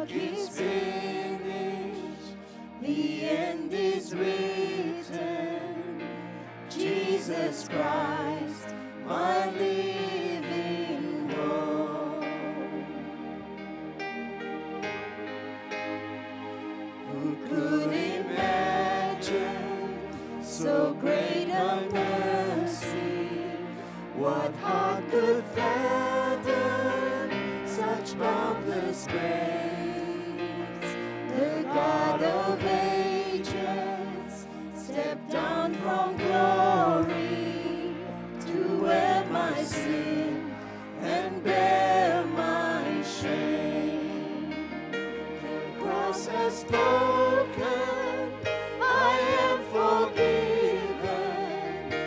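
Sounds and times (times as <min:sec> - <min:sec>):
keyboard: 0:00.0 - 0:52.0
voices singing a hymn: 0:00.0 - 0:52.0.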